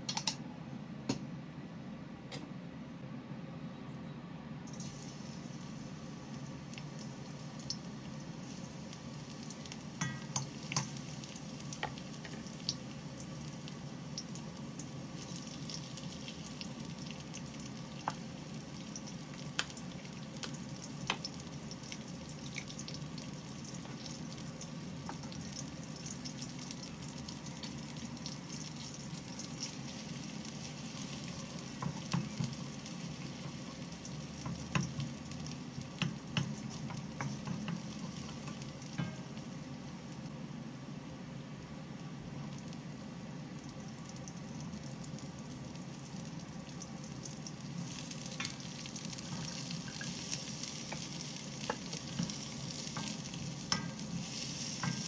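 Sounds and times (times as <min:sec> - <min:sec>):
onion sizzling in oil: 0:04.7 - 0:55.0.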